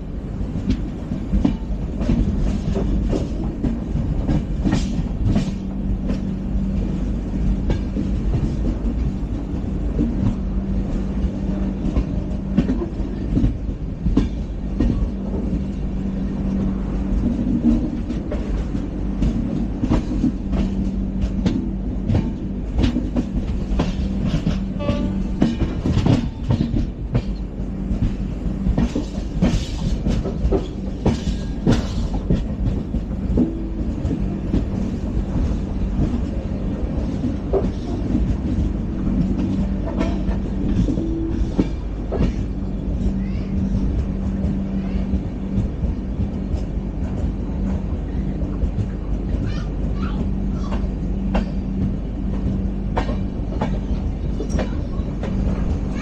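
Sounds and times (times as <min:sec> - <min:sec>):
train coach rumble: 0:00.0 - 0:56.0
wheels clicking over rails: 0:00.5 - 0:56.0.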